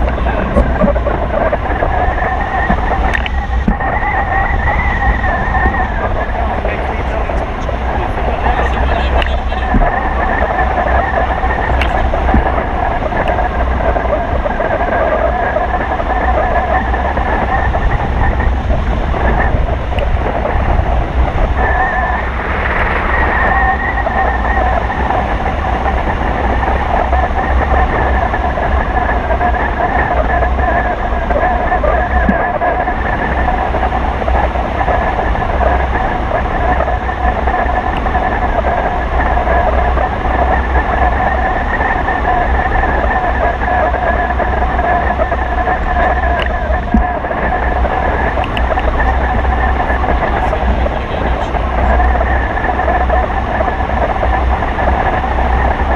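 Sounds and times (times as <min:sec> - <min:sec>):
airflow whistling tone: 0:00.0 - 0:55.9
wind noise on microphone: 0:00.0 - 0:55.9.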